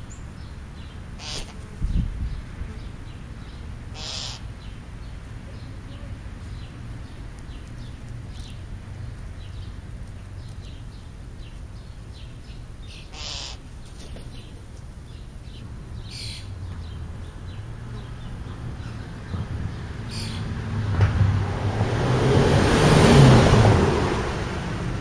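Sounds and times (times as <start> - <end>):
birds chirping: 0.0 - 20.7.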